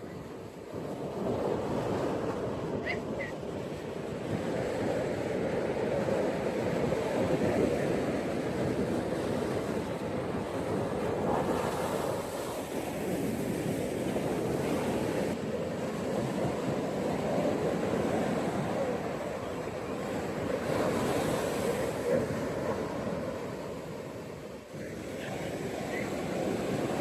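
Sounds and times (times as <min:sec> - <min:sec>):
ocean waves breaking on beach: 0:00.0 - 0:27.0
wind: 0:00.0 - 0:27.0.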